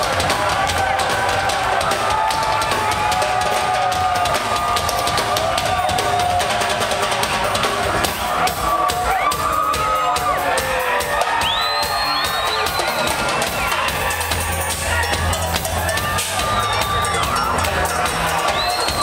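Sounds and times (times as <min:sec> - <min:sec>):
drum kit beating: 0:00.0 - 0:19.0
live band playing loudly: 0:00.0 - 0:19.0.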